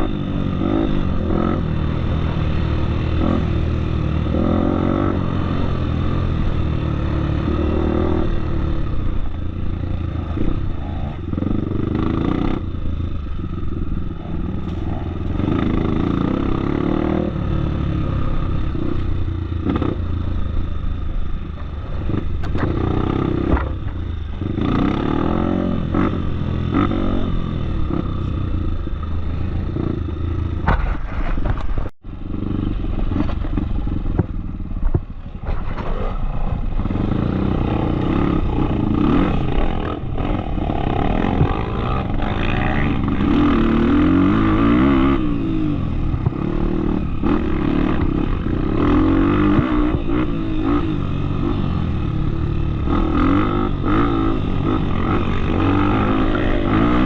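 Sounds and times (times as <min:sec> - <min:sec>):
motorcycle engine revving: 0:00.0 - 0:57.0
motorcycle rattling clatter: 0:00.0 - 0:57.0.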